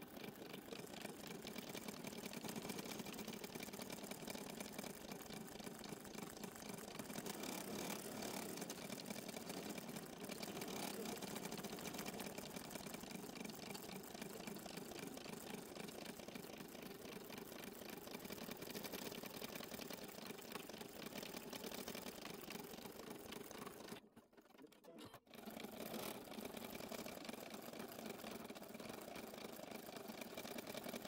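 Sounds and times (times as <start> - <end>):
embroidery machine stitching: 0.0 - 31.0.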